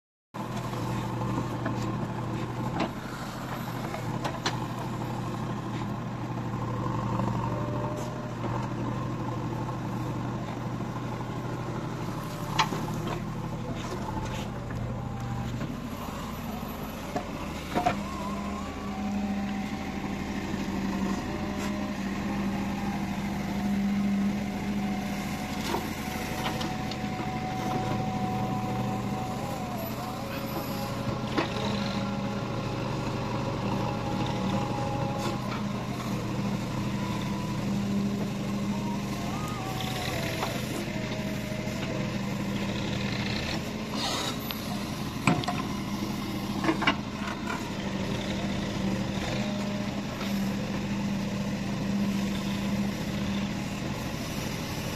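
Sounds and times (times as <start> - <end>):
diesel engine running: 0.4 - 54.9.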